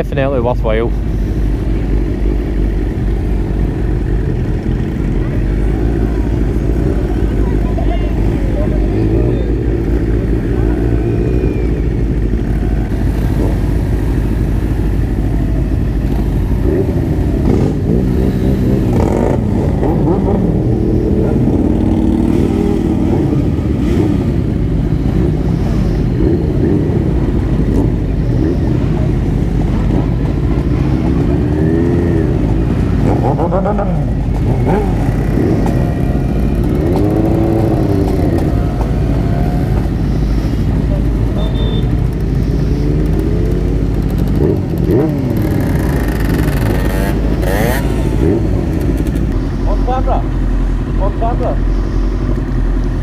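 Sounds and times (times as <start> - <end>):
other motorcycles nearby: 0.0 - 53.0
motorcycle engine revving: 1.4 - 53.0.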